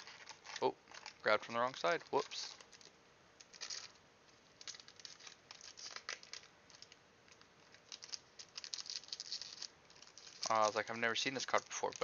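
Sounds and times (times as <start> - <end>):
foil pack crinkling and tearing: 0.0 - 4.0, 4.6 - 12.0.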